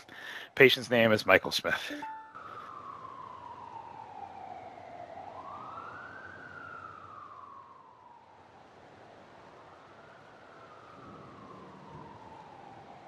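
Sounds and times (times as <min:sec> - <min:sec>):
emergency siren wailing: 0:01.8 - 0:13.0.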